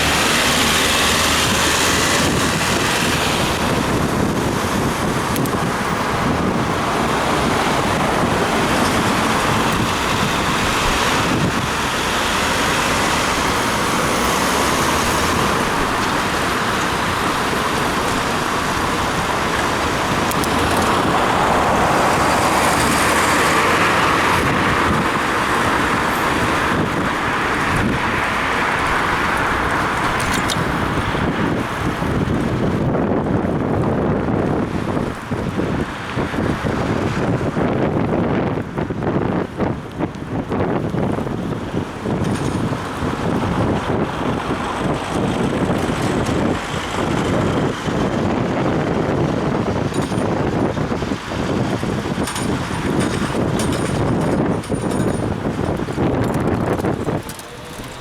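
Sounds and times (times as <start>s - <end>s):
road traffic: 0.0s - 58.0s
wind rushing over microphone: 0.0s - 58.0s.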